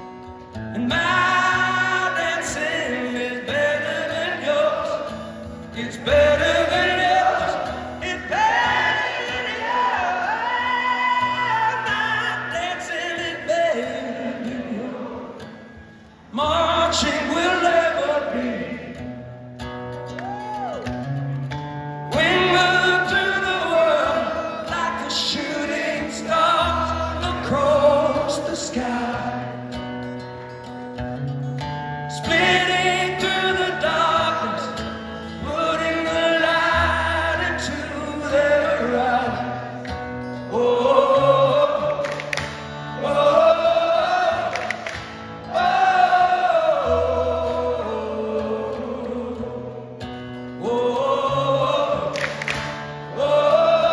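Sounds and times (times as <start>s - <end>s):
man singing: 0.6s - 15.6s, 16.3s - 19.0s, 22.1s - 29.6s, 32.1s - 42.3s, 42.9s - 49.9s, 50.5s - 53.9s.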